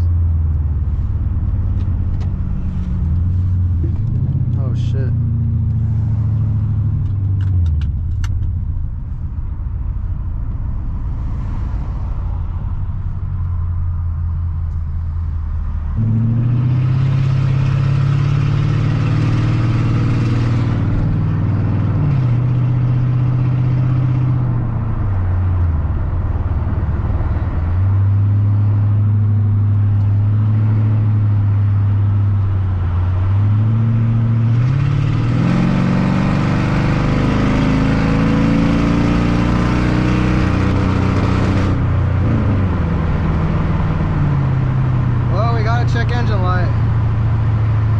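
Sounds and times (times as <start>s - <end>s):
car engine accelerating through gears: 0.0s - 8.9s, 10.0s - 47.9s.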